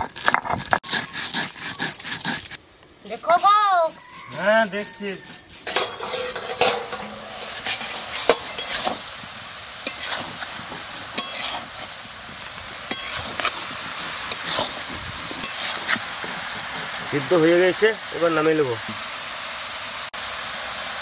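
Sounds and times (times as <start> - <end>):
spatula scraping a pan: 0.8 - 17.8
vegetables sizzling in pan: 3.2 - 21.0.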